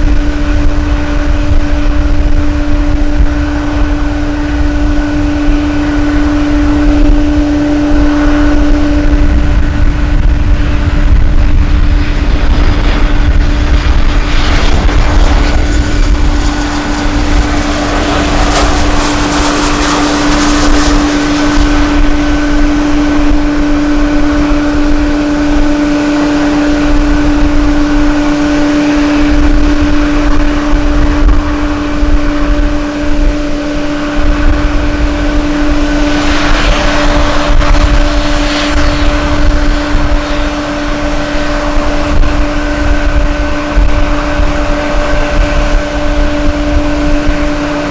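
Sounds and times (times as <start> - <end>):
airliner engines humming: 0.0 - 47.9
wind buffeting microphone: 0.0 - 47.9.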